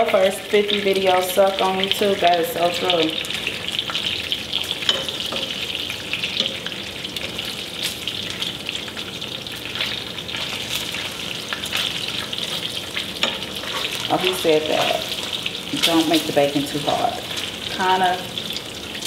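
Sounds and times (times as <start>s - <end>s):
bacon sizzling in a skillet: 0.0s - 19.0s
fat crackling and popping: 0.0s - 19.0s.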